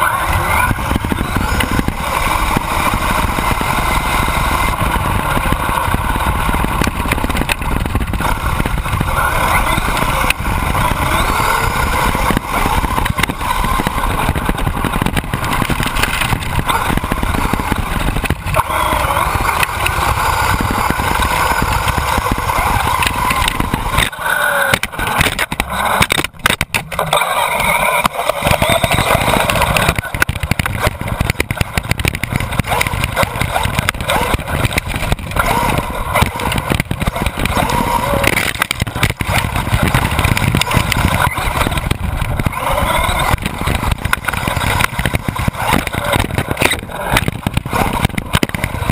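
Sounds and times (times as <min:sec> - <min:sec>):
rc car motor revving: 0:00.0 - 0:48.9.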